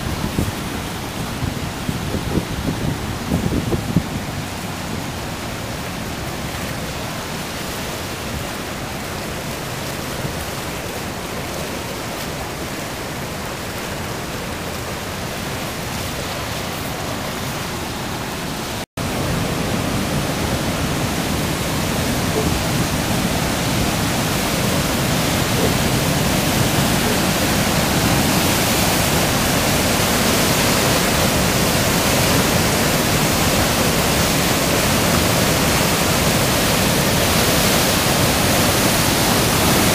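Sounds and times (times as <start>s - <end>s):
floodwater rushing: 0.0s - 39.9s
water pouring over dam spillway: 0.0s - 39.9s.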